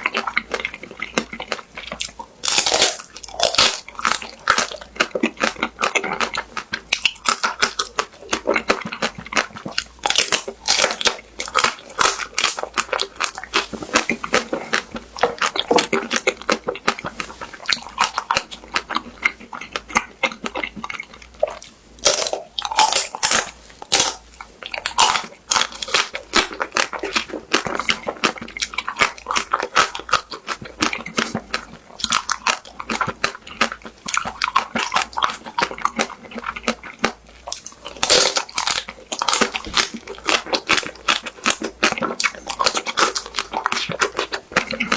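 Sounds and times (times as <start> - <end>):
crunchy biting and chewing: 0.0 - 44.9.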